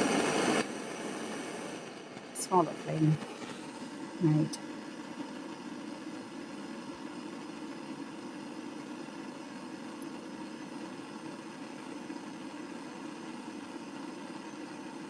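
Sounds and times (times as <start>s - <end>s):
blowtorch flame burning: 0.0s - 15.0s.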